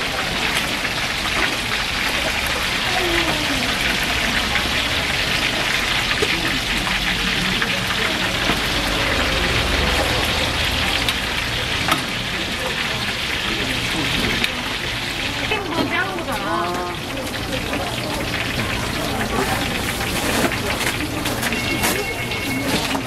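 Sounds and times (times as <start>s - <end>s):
squid deep-frying in oil: 0.0s - 23.0s.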